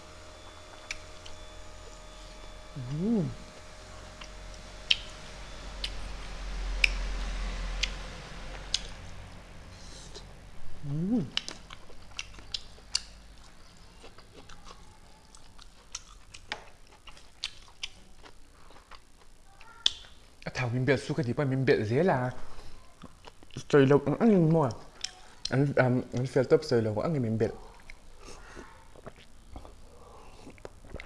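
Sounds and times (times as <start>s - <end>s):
person chewing food: 0.4s - 9.1s, 9.8s - 20.3s, 22.8s - 23.7s, 24.7s - 26.3s, 27.6s - 31.0s.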